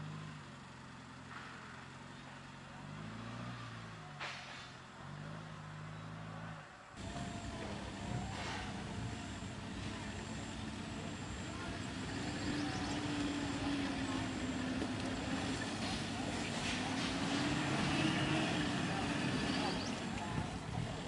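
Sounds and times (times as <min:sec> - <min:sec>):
engine revving: 0:02.6 - 0:21.0.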